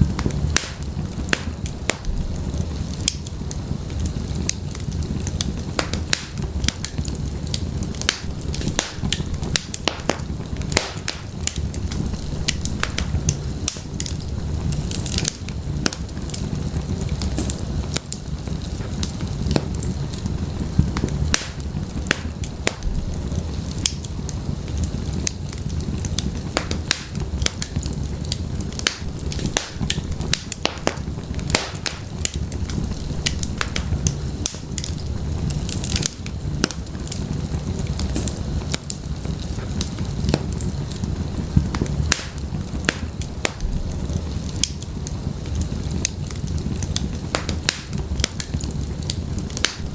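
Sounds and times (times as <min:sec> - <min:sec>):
firewood crackling and popping: 0:00.0 - 0:49.9
low rumble of flames: 0:00.0 - 0:49.9.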